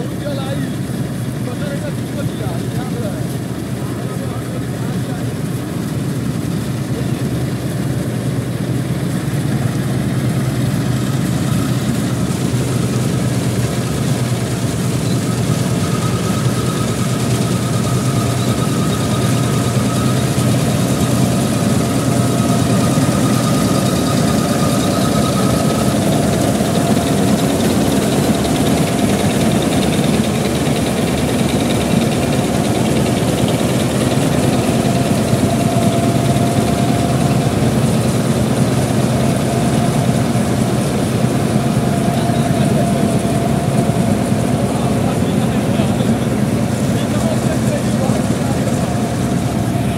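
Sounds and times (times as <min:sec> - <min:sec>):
combine harvester engine drone: 0:00.0 - 0:49.9
thin steady whine: 0:00.0 - 0:49.9.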